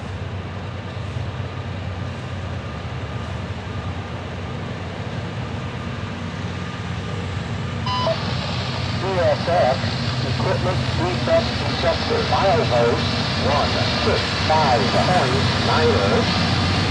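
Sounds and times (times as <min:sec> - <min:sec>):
diesel locomotives rumbling: 0:00.0 - 0:16.9.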